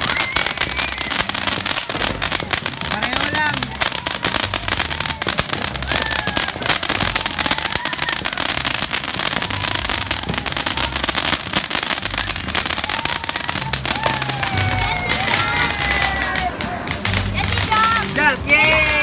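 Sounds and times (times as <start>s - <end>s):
firework hissing and crackling: 0.0s - 19.0s.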